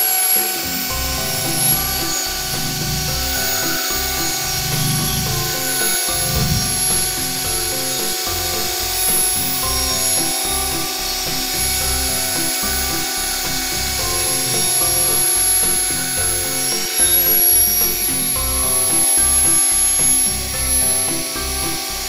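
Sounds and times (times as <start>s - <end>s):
background music with bass: 0.0s - 22.0s.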